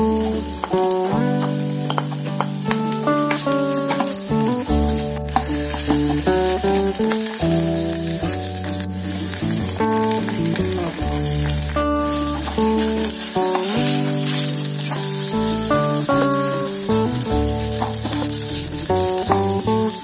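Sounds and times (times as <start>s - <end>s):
wooden spatula stirring: 0.0s - 19.9s
food sizzling in hot oil: 0.0s - 20.0s
instrumental background music: 0.0s - 20.0s.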